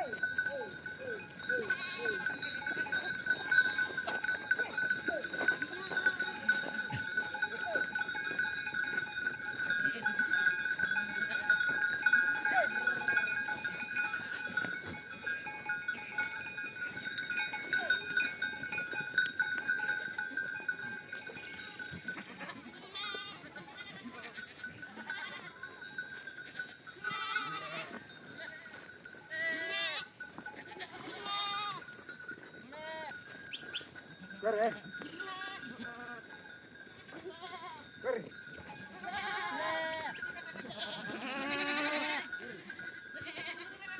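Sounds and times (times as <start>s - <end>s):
goats calling: 0.0s - 36.4s, 37.0s - 43.9s
goat bells ringing: 0.0s - 43.9s.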